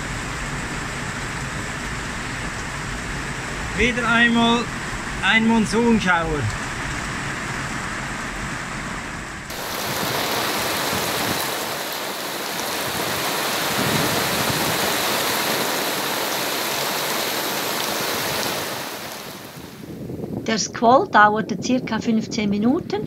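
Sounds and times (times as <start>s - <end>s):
heavy rain pouring onto sea: 0.0s - 19.9s.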